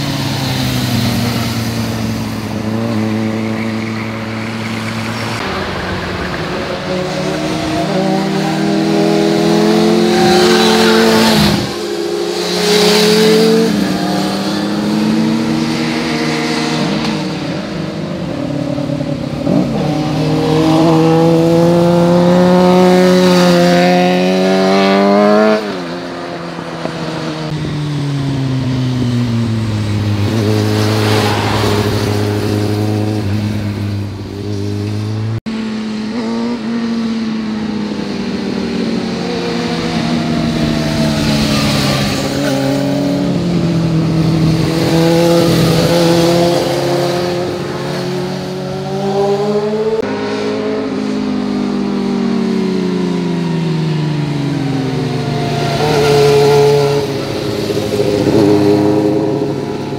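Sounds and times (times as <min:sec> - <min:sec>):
motorcycle engines passing: 0:00.0 - 0:59.9.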